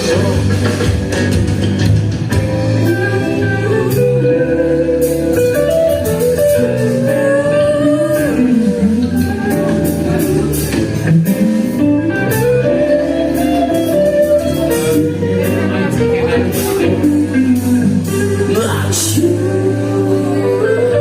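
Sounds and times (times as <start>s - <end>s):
bass guitar: 0.0s - 21.0s
drums: 0.0s - 21.0s
electric guitar lead with bends: 0.0s - 21.0s.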